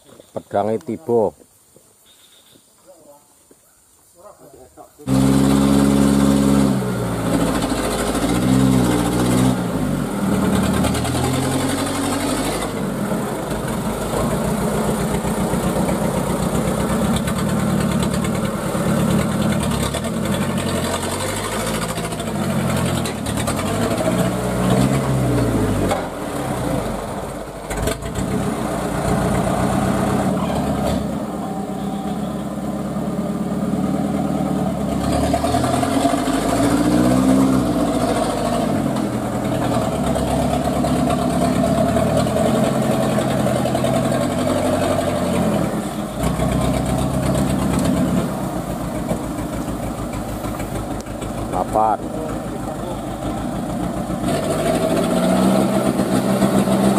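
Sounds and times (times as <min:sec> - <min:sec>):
truck engine revving: 0:05.0 - 0:56.9.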